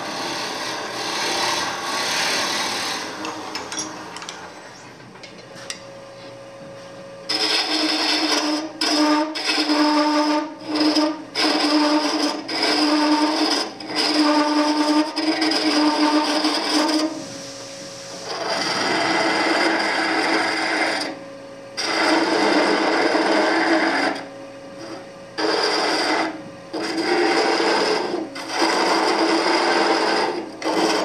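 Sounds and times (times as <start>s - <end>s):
gouge cutting wood on lathe: 0.0s - 3.8s, 7.3s - 17.2s, 18.2s - 21.1s, 21.8s - 24.2s, 24.8s - 31.0s
lathe motor hum: 0.0s - 31.0s.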